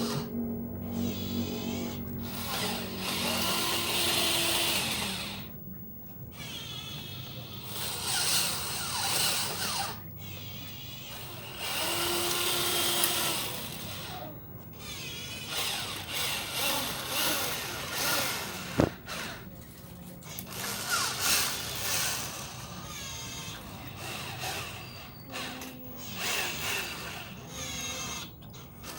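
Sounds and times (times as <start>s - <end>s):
toy truck motor whirring: 0.0s - 5.6s, 6.3s - 19.5s, 20.2s - 28.9s.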